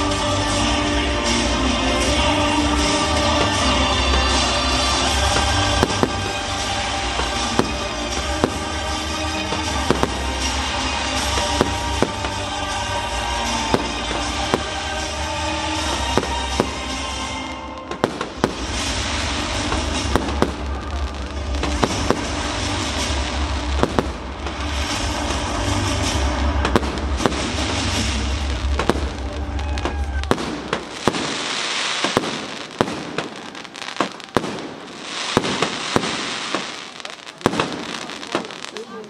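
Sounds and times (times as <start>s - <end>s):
music with heavy bass: 0.0s - 31.6s
fireworks bangs and crackling: 0.0s - 39.0s.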